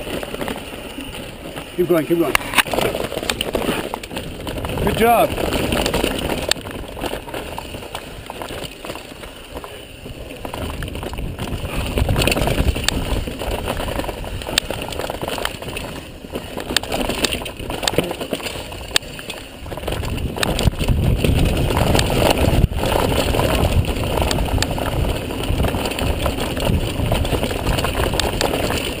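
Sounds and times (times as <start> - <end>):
bike clicks and rattles: 0.0 - 29.0
bike tyres rolling on dirt: 0.0 - 29.0
wind buffeting microphone: 0.0 - 29.0.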